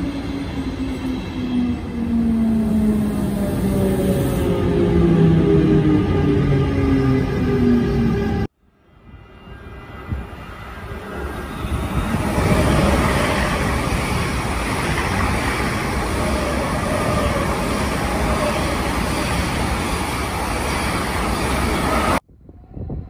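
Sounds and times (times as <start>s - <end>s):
electric train passing: 0.0s - 22.2s.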